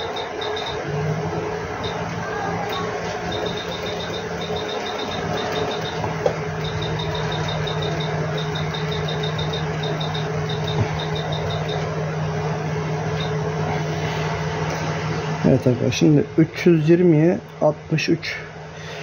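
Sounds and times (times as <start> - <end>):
blower humming: 0.0 - 19.0.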